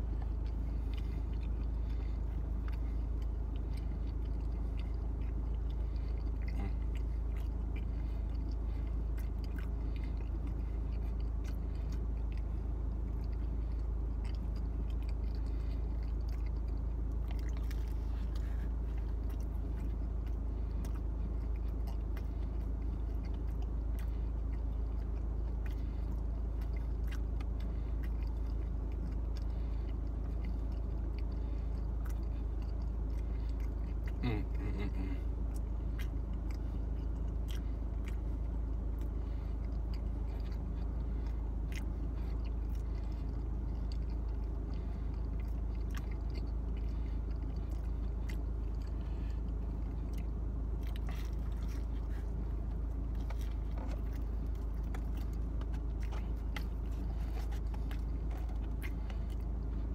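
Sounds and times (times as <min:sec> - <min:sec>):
low rumble in car cabin: 0:00.0 - 0:59.9
man chewing pizza: 0:00.0 - 0:59.9.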